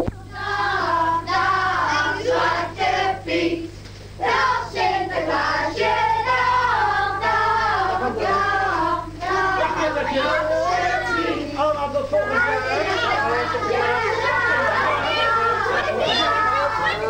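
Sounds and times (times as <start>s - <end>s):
low electrical hum: 0.0s - 17.0s
children singing: 0.3s - 3.6s, 4.2s - 11.6s, 12.3s - 17.0s.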